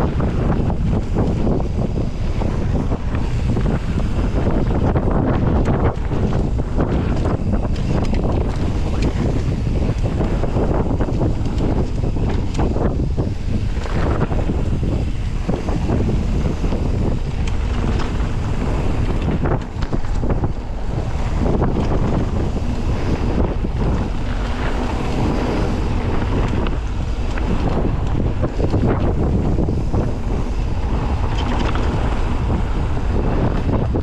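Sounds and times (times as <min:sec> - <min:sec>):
bike knocking and rattling: 0:00.0 - 0:34.0
tyres rumbling on trail: 0:00.0 - 0:34.0
wind buffeting microphone: 0:00.0 - 0:34.0.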